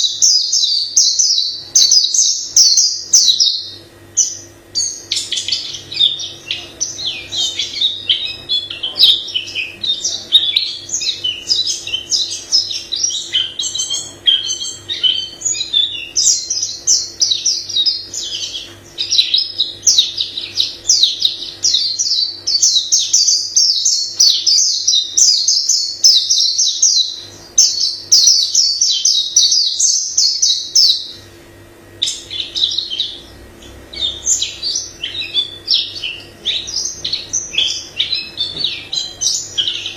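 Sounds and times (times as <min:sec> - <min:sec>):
bird chirping and warbling: 0:00.0 - 0:39.9
faint steady hum: 0:00.0 - 0:39.9.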